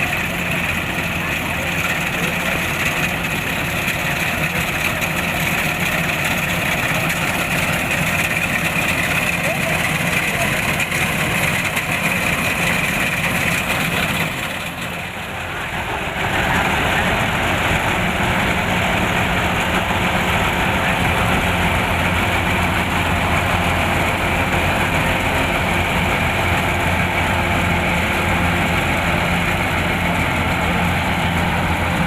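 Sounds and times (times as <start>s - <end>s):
diesel engine humming: 0.0s - 32.0s
machinery clattering: 0.0s - 32.0s.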